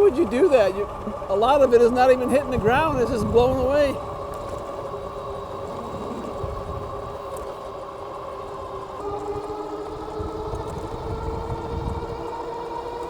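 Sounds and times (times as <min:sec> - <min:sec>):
e-bike hub motors whining: 0:00.0 - 0:13.0
wind rumbling on microphone: 0:00.0 - 0:13.0.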